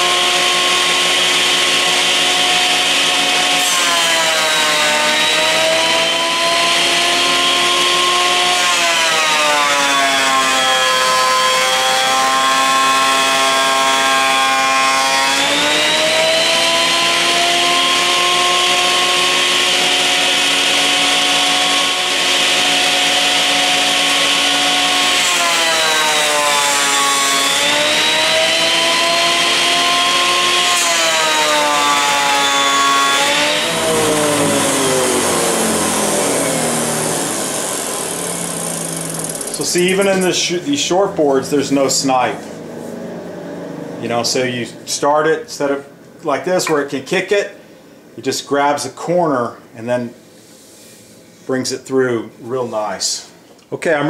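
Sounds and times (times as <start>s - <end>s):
thickness planer cutting boards: 0.0s - 45.8s.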